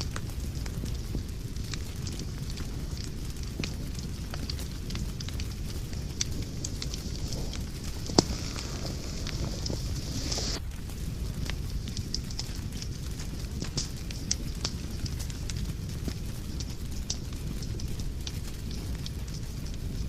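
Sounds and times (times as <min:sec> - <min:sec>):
sharp pops of fire: 0:00.0 - 0:20.0
wood fire crackling: 0:00.0 - 0:20.0.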